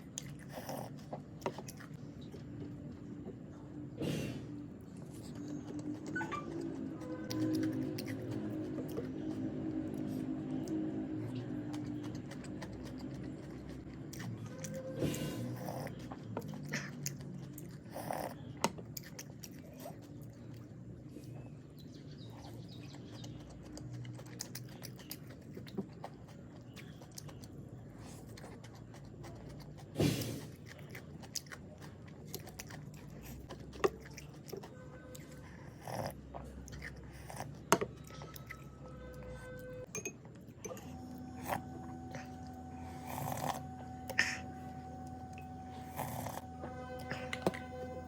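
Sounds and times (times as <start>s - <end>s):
wet chewing sounds: 0.0s - 48.0s.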